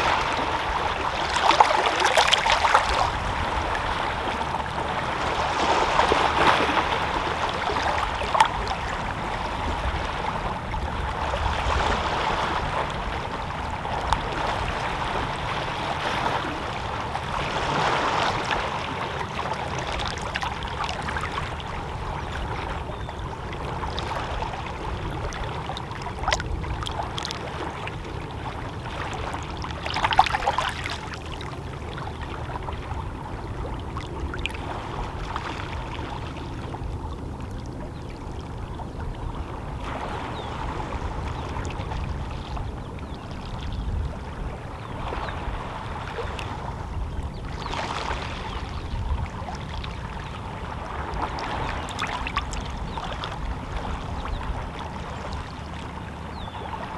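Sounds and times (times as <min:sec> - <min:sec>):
water lapping against rocks: 0:00.0 - 0:56.9.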